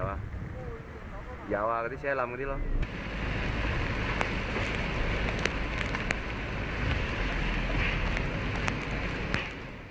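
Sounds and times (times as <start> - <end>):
wind and rain noise in car: 0.0 - 9.9.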